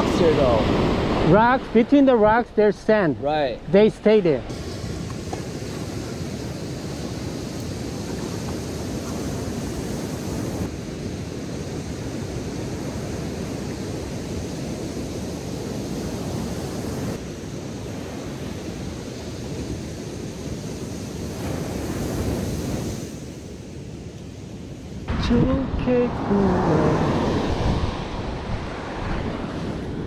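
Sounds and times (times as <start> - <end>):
ocean waves breaking on beach: 0.0 - 3.2, 3.8 - 30.0.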